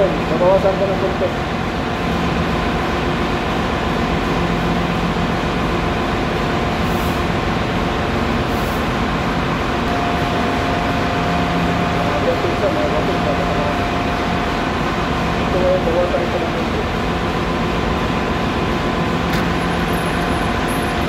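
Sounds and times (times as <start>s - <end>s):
machinery drone: 0.0s - 21.0s.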